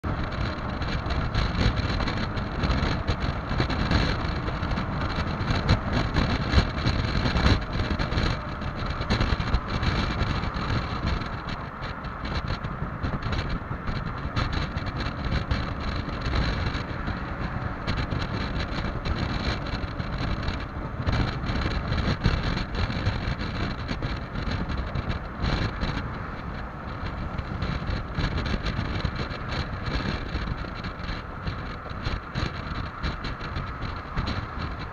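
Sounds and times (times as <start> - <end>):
scooter engine drone: 0.0 - 34.9
wind buffeting microphone: 0.0 - 34.9.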